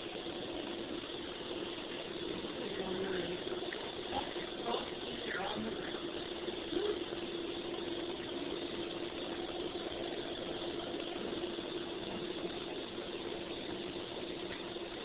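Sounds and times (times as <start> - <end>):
even hiss: 0.0 - 15.0
steady machine hum: 0.0 - 15.0.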